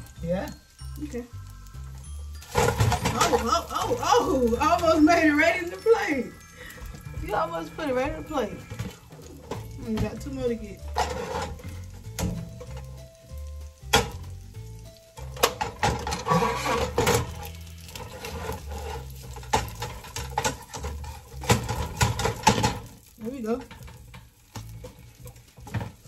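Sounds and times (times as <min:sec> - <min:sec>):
background music with bass line: 0:00.0 - 0:22.6
sausages sizzling in a frying pan: 0:00.0 - 0:26.0
utensil clacking against a pan: 0:02.4 - 0:14.4, 0:15.1 - 0:26.0.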